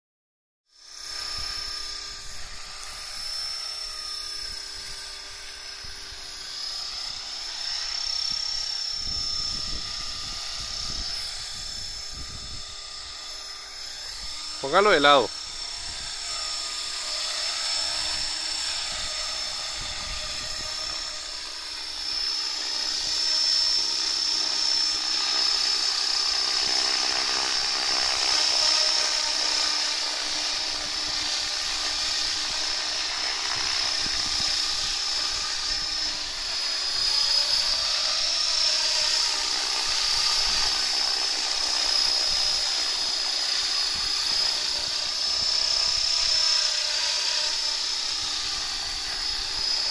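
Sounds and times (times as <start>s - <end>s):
rc helicopter motor whine: 0.7s - 49.9s.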